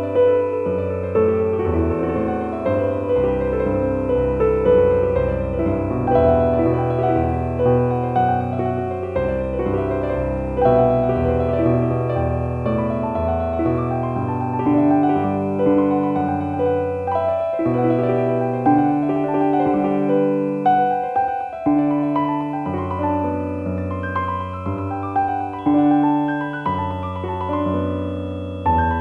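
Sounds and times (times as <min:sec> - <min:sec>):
slow gentle piano music: 0:00.0 - 0:29.0.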